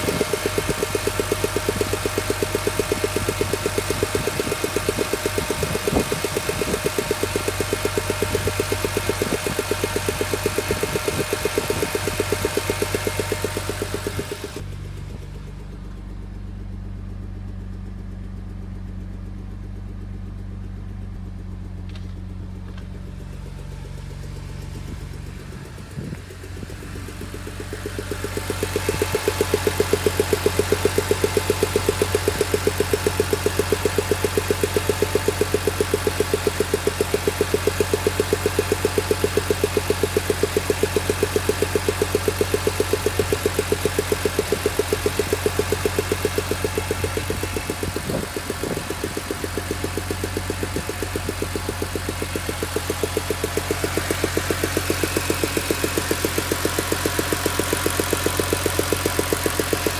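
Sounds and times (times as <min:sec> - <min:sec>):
car engine idling: 0:00.0 - 0:59.9
fast regular engine ticking: 0:00.0 - 0:59.9.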